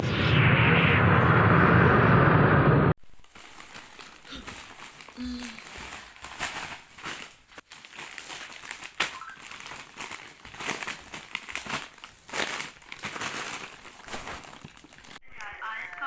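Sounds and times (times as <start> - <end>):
crinkling and rustling: 3.0 - 16.0.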